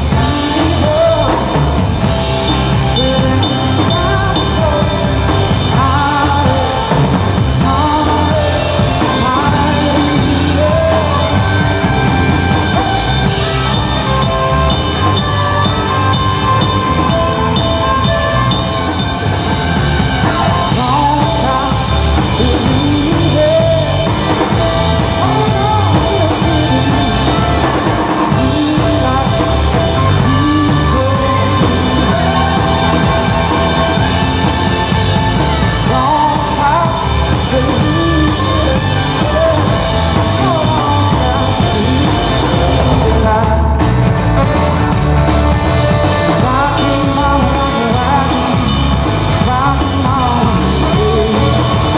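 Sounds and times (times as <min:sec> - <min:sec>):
bass guitar: 0:00.0 - 0:51.9
drum kit: 0:00.0 - 0:51.9
live rock band playing: 0:00.0 - 0:51.9
person singing: 0:00.0 - 0:51.9.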